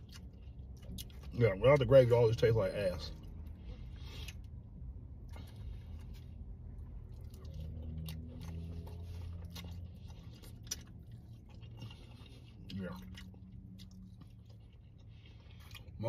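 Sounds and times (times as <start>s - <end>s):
soft chewing and biting: 0.0s - 16.0s.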